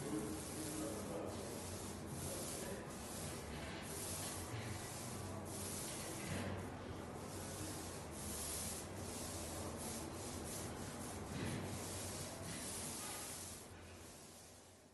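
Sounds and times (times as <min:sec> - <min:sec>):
paint roller swishing on ceiling: 0:00.0 - 0:14.9.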